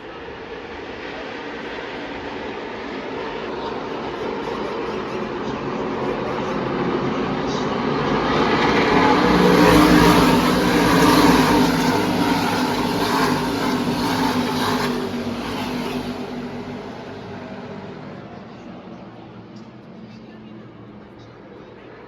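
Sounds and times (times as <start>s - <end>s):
race truck engines passing: 0.0s - 22.0s.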